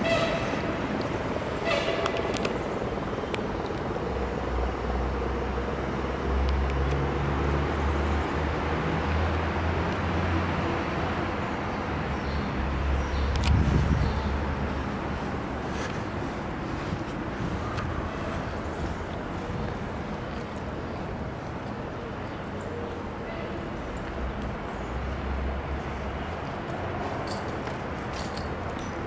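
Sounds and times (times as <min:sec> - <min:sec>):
urban outdoor rumble: 0:00.0 - 0:29.0.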